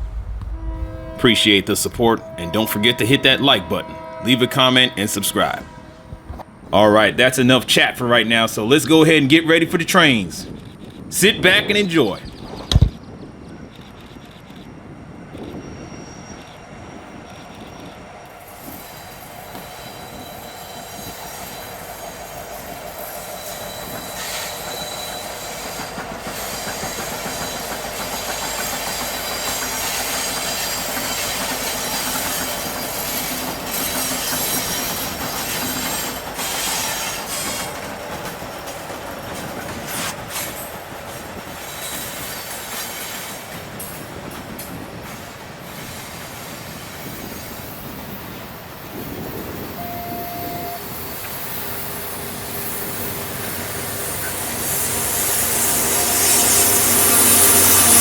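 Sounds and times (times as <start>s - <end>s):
steel wheels squealing on rails: 0.0s - 58.0s
clickety-clack of wheels on rails: 8.7s - 11.2s, 12.3s - 58.0s.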